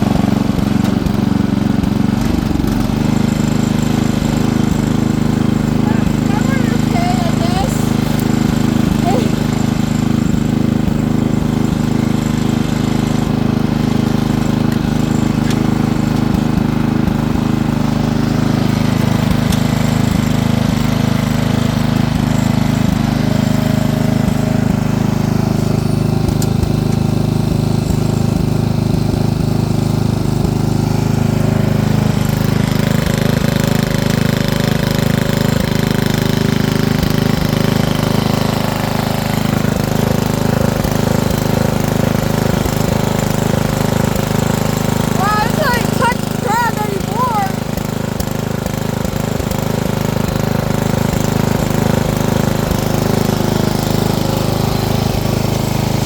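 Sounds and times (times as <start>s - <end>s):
off-road vehicle motor rattling drone: 0.0s - 56.0s.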